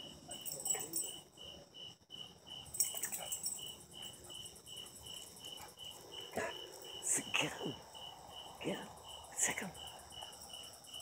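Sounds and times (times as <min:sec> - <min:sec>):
crickets chirping: 0:00.0 - 0:11.0
insects hissing: 0:00.0 - 0:11.0.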